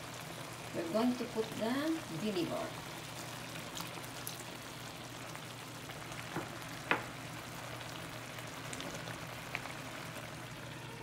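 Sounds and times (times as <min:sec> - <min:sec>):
stew sizzling in a pot: 0:00.0 - 0:11.0.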